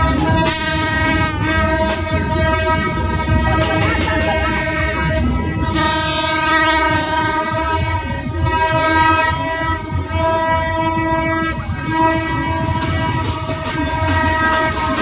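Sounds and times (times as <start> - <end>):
toy party trumpets honking: 0.0 - 15.0.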